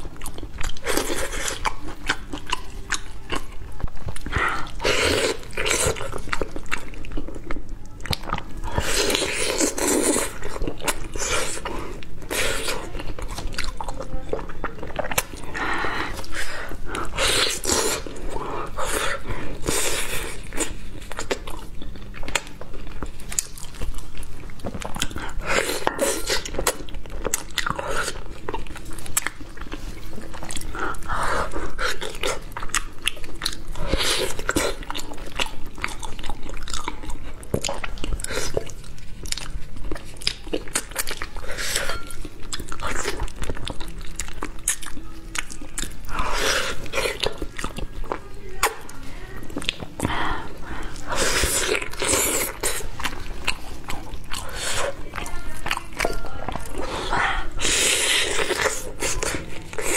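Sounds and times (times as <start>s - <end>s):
biting and chewing: 0.0s - 59.9s.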